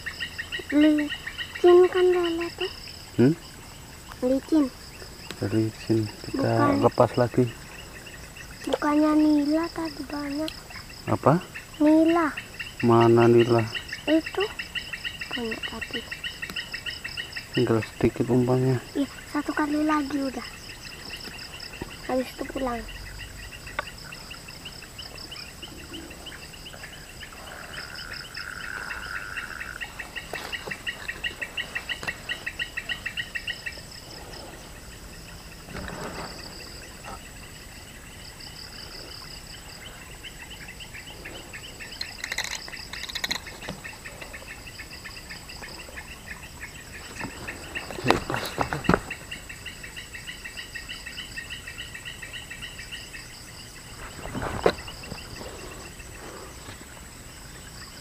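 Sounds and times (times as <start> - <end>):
chorus of chirping animal calls: 0.0 - 3.5, 4.2 - 54.0.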